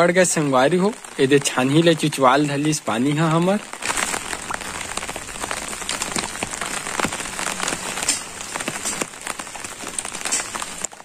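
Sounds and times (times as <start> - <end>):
heavy rain on a tile roof: 0.0 - 11.0
water dripping: 0.0 - 11.0.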